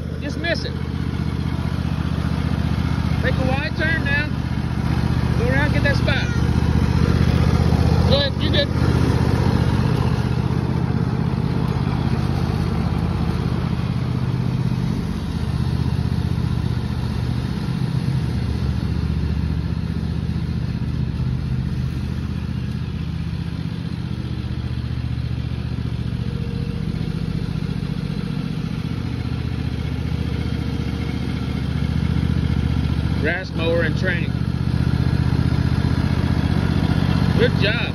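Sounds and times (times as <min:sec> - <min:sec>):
riding mower engine running: 0:00.0 - 0:37.9.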